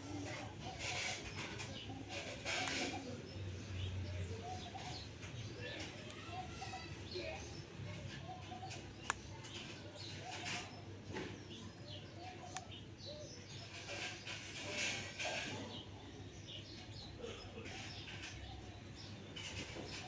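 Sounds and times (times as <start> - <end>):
birds chirping softly: 0.0 - 20.0.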